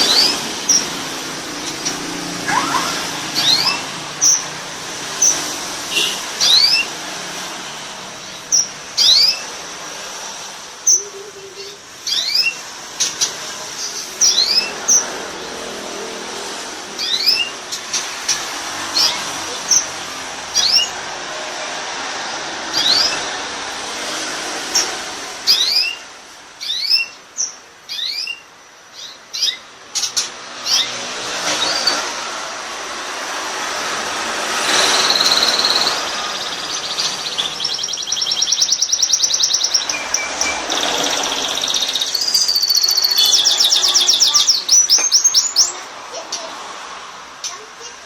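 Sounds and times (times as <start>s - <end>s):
canary singing: 0.0s - 15.8s, 16.4s - 21.3s, 22.7s - 23.5s, 24.6s - 31.0s, 34.0s - 46.6s.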